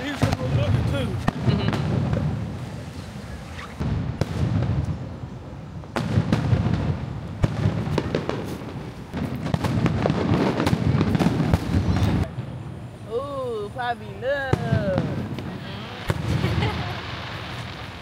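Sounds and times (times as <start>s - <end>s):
fireworks booms and cracks: 0.0s - 13.1s, 13.8s - 18.0s.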